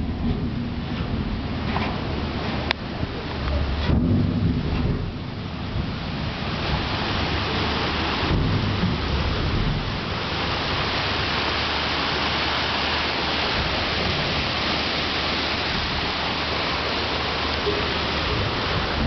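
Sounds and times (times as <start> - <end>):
ship wake and propeller wash: 0.0 - 19.0.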